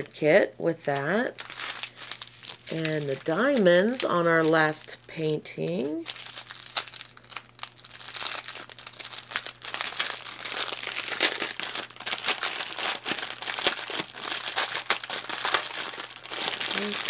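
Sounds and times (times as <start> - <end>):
plastic bags crinkling: 1.3 - 17.0.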